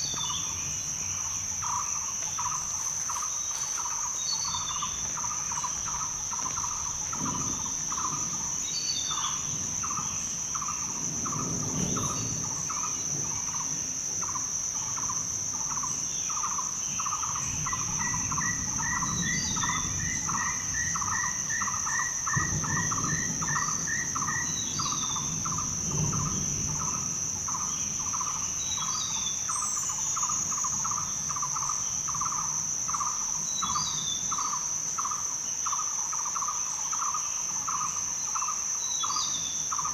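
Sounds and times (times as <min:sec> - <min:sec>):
pulsing insect call: 0:00.0 - 0:39.9.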